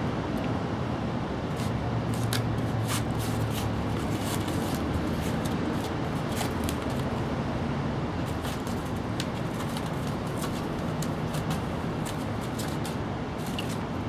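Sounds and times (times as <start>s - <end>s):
kitten clawing cardboard: 1.5s - 7.3s, 8.2s - 14.0s.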